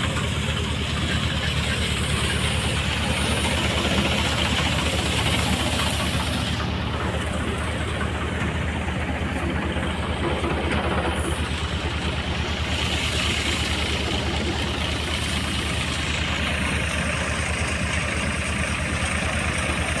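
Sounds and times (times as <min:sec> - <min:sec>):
threshing machine: 0:00.0 - 0:20.0
tractor diesel engine running: 0:00.0 - 0:20.0.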